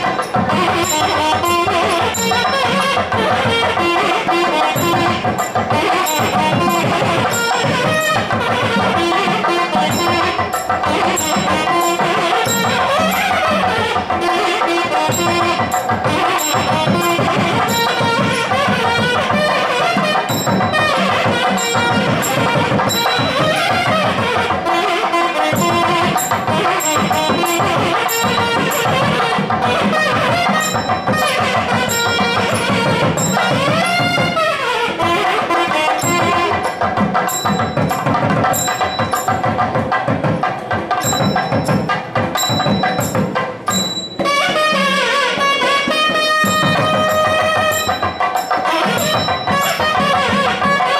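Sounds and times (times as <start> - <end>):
rapid drumming: 0.0 - 50.9
reedy wind instrument melody: 0.0 - 50.9.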